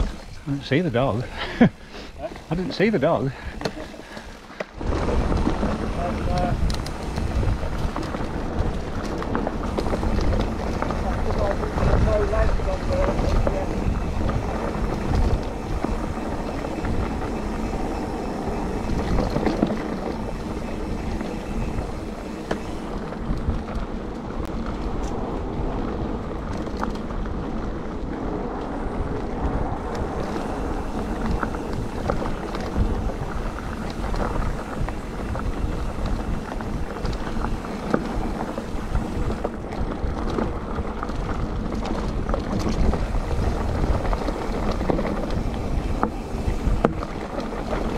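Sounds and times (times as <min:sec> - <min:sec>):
bike rattling: 0:00.0 - 0:47.9
bike tyres rumbling on dirt: 0:00.0 - 0:47.9
wind buffeting microphone: 0:00.0 - 0:47.9.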